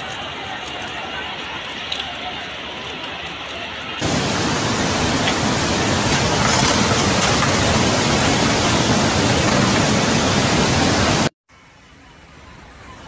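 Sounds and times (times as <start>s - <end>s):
rushing floodwater: 0.0s - 11.3s.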